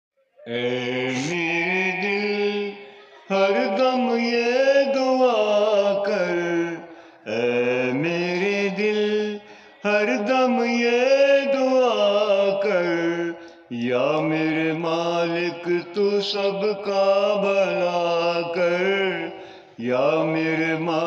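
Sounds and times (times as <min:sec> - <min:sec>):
man singing into microphone: 0:00.5 - 0:21.0.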